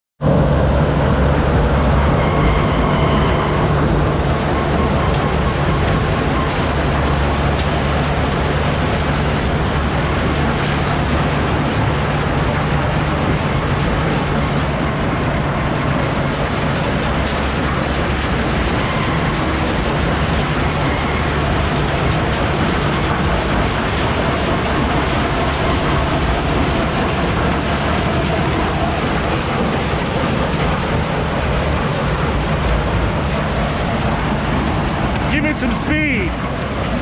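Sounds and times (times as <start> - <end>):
diesel engine running under load: 0.2 - 37.0.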